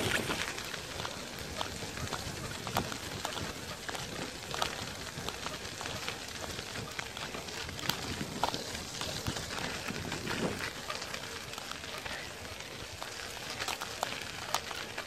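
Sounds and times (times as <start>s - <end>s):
wheels rolling over gritty path: 0.0s - 15.0s.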